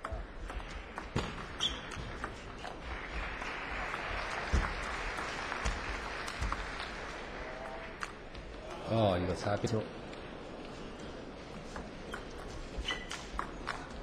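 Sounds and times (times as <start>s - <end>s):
arena crowd noise: 0.0s - 12.8s.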